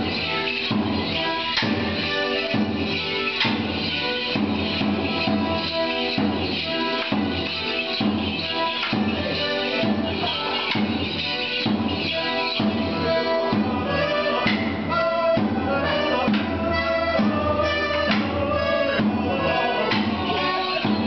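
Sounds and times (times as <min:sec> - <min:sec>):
folk band playing dance tune: 0:00.0 - 0:21.0
steady drum beat: 0:00.0 - 0:21.0.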